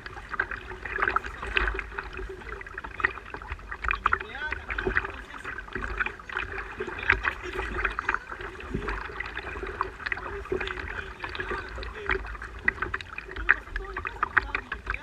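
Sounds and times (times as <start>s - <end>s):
water splashing against kayak: 0.0s - 15.0s.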